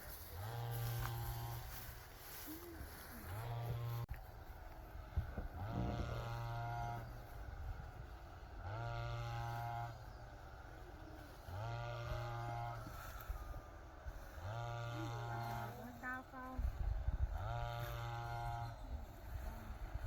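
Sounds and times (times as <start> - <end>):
motor humming: 0.0 - 20.0.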